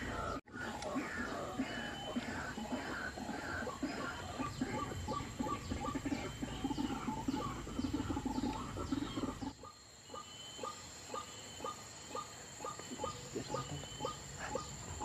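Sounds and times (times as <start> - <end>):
rhythmic clucking bird calls: 0.0 - 15.0.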